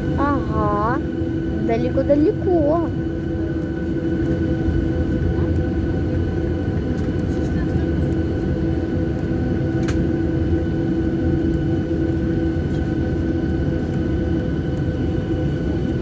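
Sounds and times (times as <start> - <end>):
high engine whine: 0.0 - 16.0
jet engine drone: 0.0 - 16.0.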